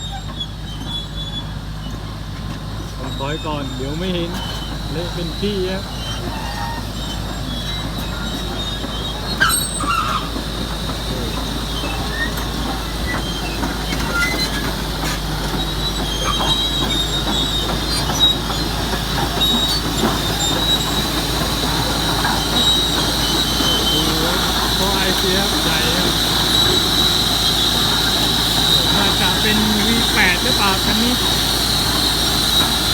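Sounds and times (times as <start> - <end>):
diesel engine under load: 0.0 - 32.9
steel tracks squeaking and clanking: 0.0 - 32.9.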